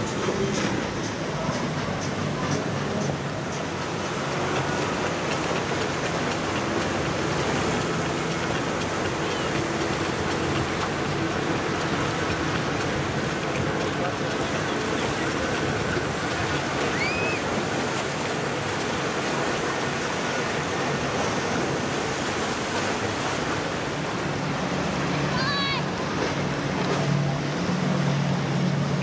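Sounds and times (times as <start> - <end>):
faint boat engines hum: 0.0 - 29.0
waves and rushing water: 0.0 - 29.0.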